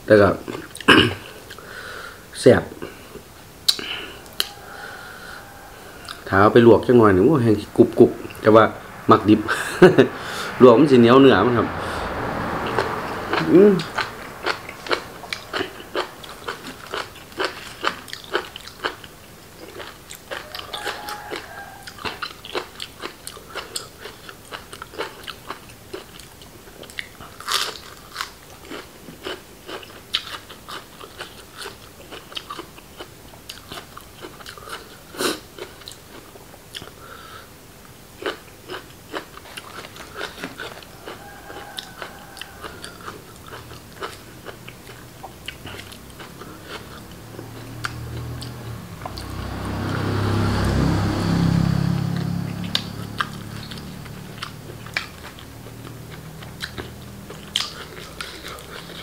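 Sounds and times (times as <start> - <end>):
person chewing with crunching: 0.4 - 1.8, 2.8 - 6.3, 12.7 - 37.4, 38.2 - 59.0.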